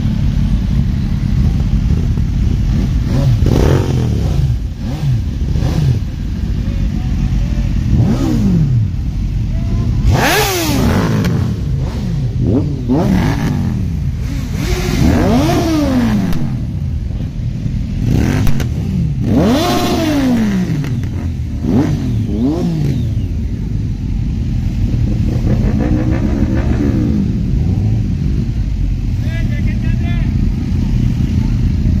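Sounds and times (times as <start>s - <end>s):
motorcycle engine revving: 0.0s - 29.2s.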